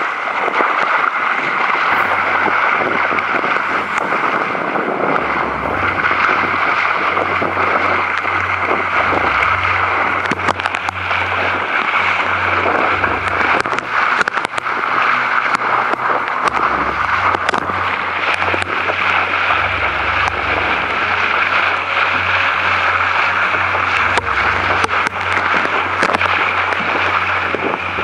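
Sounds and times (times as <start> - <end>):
water rushing along boat hull: 0.0 - 28.0
low buffeting rumble: 1.2 - 28.0.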